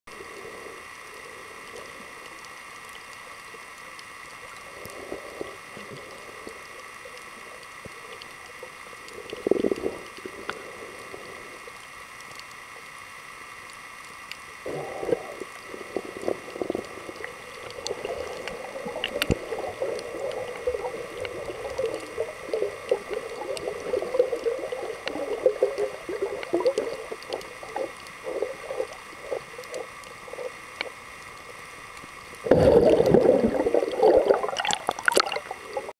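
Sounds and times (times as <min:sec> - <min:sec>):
faint steady hum: 0:00.1 - 0:35.9
underwater gurgling and sloshing: 0:00.1 - 0:35.9.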